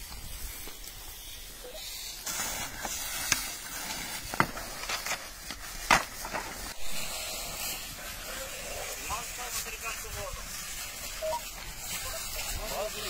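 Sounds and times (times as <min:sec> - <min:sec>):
fire hose spraying water: 0:00.0 - 0:13.0
sharp cracks of burning grass: 0:00.0 - 0:13.0.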